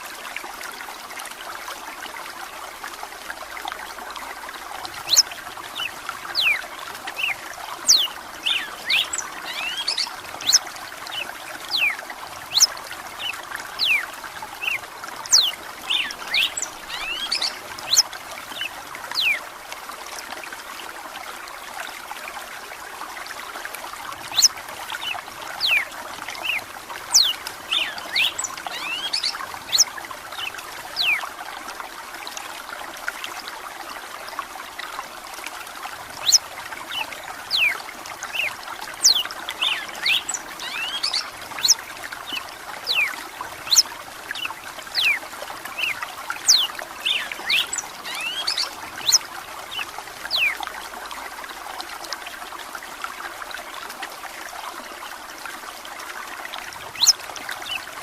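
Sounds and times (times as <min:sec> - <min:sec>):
trickle of running water: 0:00.0 - 0:58.0.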